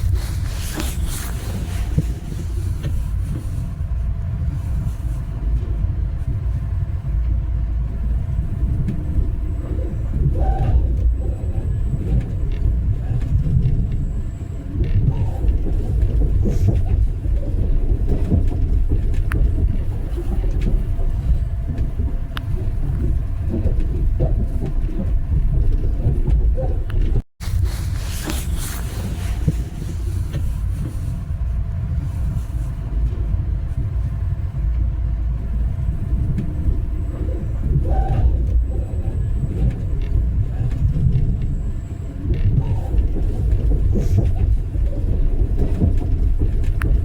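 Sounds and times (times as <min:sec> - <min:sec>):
vehicle rumbling from inside: 0:00.0 - 0:47.0.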